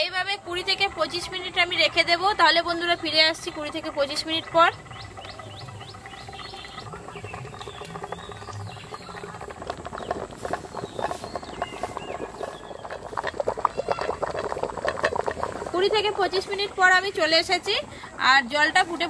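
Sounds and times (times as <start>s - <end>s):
water boiling in a wok: 0.0s - 19.0s.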